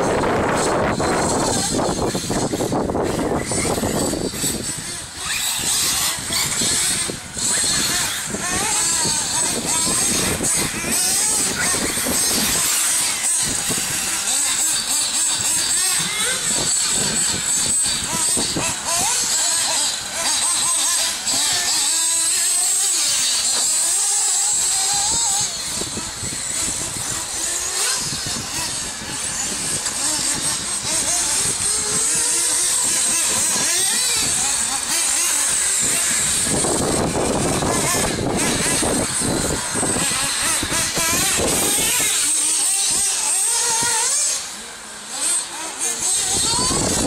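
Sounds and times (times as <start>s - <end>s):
rc buggy motors buzzing: 0.0s - 47.0s
small engines revving: 0.0s - 47.0s.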